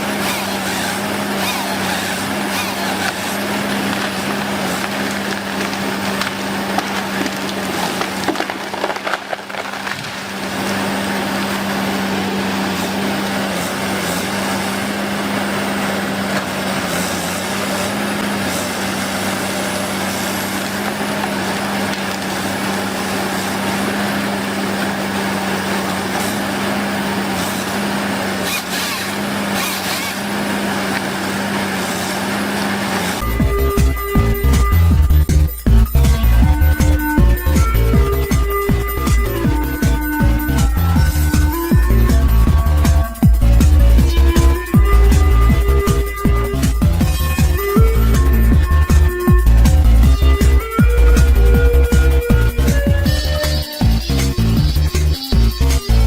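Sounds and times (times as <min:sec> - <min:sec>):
rough grinding of cut wood: 0:00.0 - 0:56.0
woodworking machine humming: 0:00.0 - 0:56.0.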